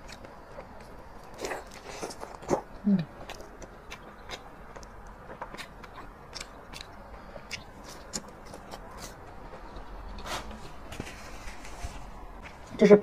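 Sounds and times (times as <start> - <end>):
person chewing crisp pancake: 0.0 - 11.6.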